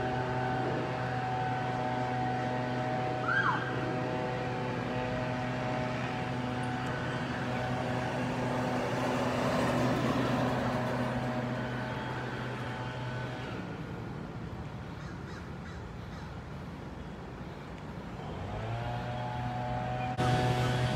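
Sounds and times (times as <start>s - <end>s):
fire engine driving past: 0.0s - 14.9s, 17.9s - 20.9s.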